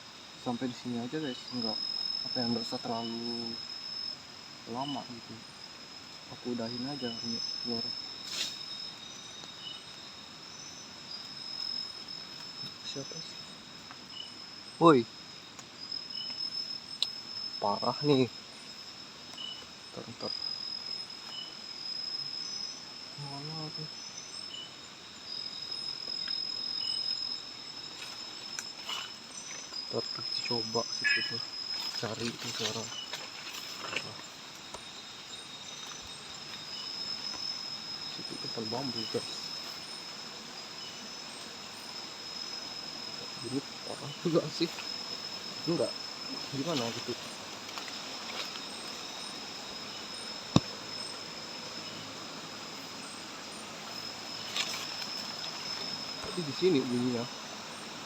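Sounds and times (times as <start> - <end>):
crickets trilling: 0.0 - 58.0
forest insects chorus: 0.0 - 58.0.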